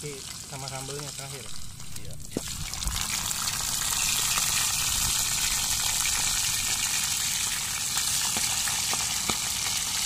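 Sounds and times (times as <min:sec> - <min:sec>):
food sizzling in hot oil: 0:00.0 - 0:10.0
oil popping: 0:00.3 - 0:10.0.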